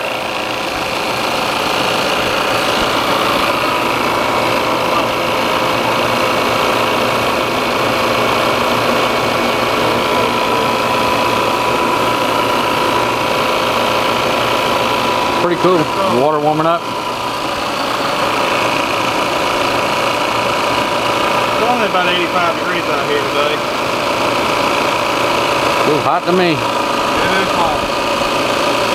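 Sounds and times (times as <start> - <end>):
machine hum with faint whine: 0.0 - 28.9.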